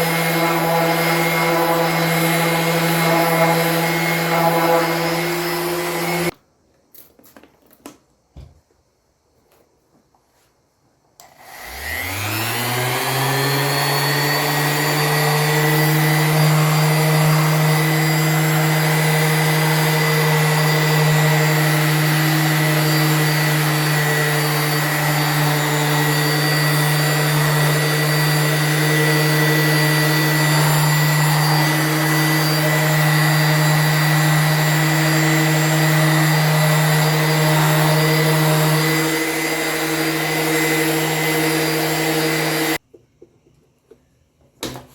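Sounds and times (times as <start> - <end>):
polishing machine motor whine: 0.0 - 6.3, 11.4 - 42.8.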